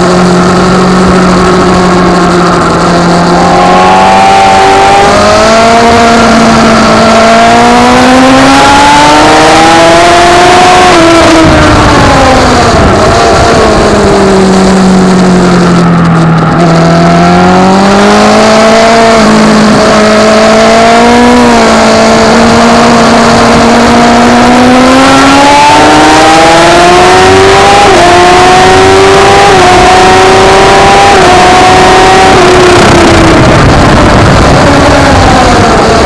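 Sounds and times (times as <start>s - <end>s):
motorcycle engine revving: 0.0s - 36.0s
wind rushing: 0.5s - 29.2s, 29.9s - 36.0s.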